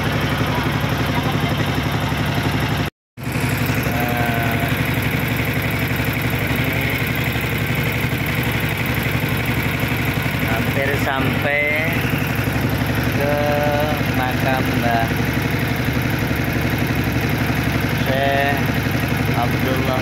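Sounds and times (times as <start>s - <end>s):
boat engine puttering: 0.0s - 20.0s.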